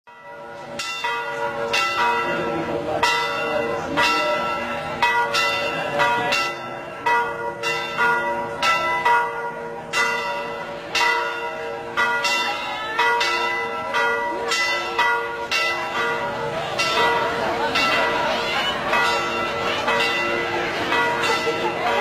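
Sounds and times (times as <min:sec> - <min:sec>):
church bells ringing: 0:00.1 - 0:22.0.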